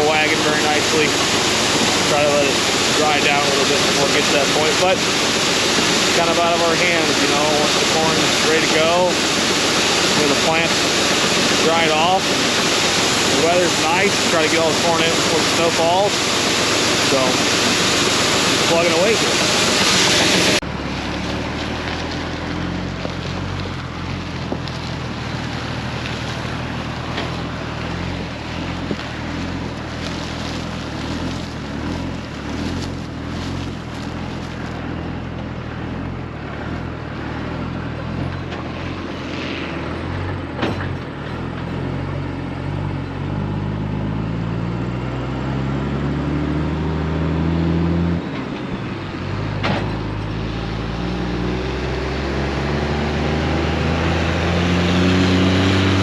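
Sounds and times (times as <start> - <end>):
heavy diesel engine accelerating: 0.0 - 56.0.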